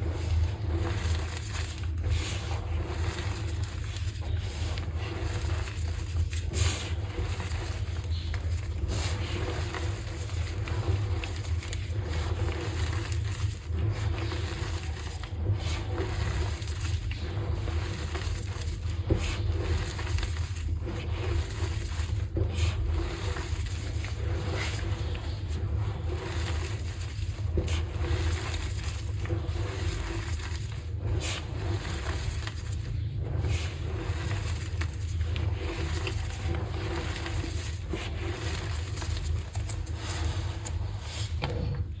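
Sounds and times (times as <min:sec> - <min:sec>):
chalk crumbling by hand: 0:00.0 - 0:42.0
steady low hum: 0:00.0 - 0:42.0.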